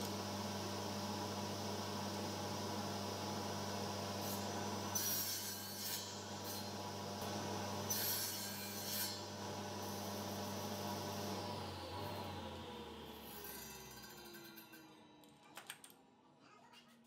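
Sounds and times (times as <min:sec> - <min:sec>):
table saw humming: 0:00.0 - 0:14.8.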